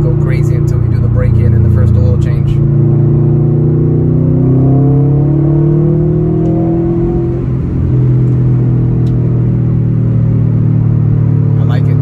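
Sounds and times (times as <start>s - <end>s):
car engine accelerating inside cabin: 0.0s - 12.0s.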